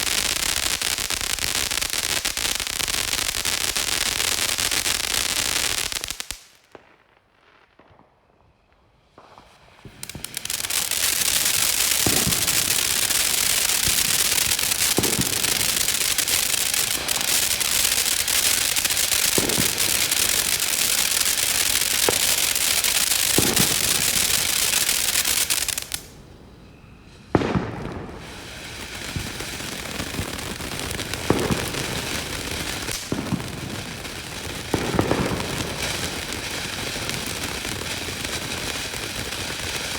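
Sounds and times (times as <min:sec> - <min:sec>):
firework fountain hissing: 0:00.0 - 0:06.6, 0:09.3 - 0:26.2, 0:27.3 - 0:39.9.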